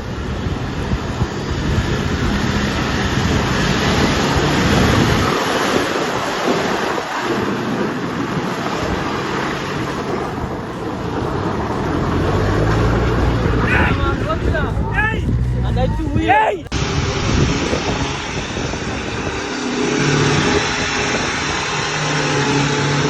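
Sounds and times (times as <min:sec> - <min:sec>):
off-road vehicle engine running: 0:00.0 - 0:23.0
steady rushing noise: 0:00.0 - 0:23.0.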